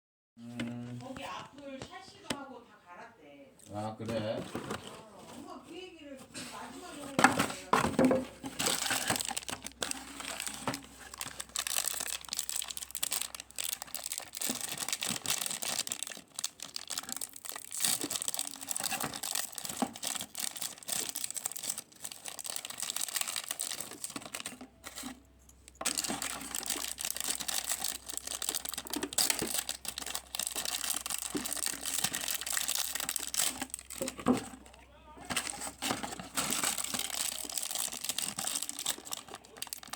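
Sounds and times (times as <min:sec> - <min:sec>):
packaging crinkling and tearing: 0:06.9 - 0:39.9.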